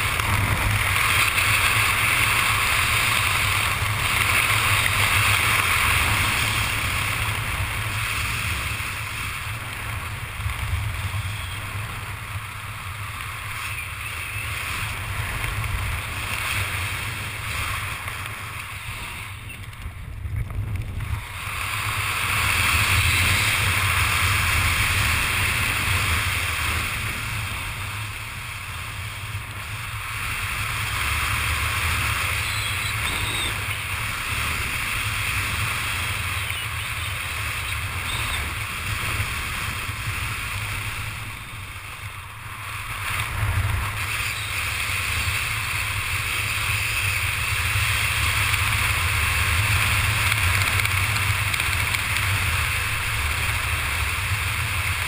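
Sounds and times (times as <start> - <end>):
wind rushing over camera: 0.0 - 55.0.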